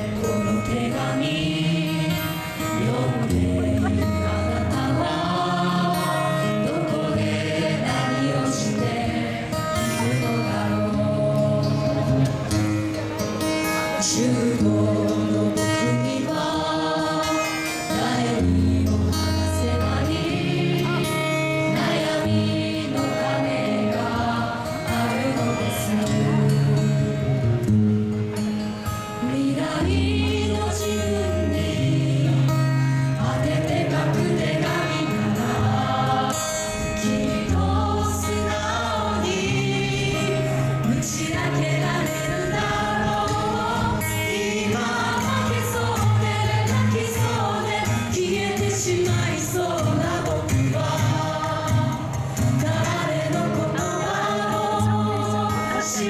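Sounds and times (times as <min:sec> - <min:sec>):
group of voices singing: 0:00.0 - 0:27.4, 0:29.0 - 0:56.0.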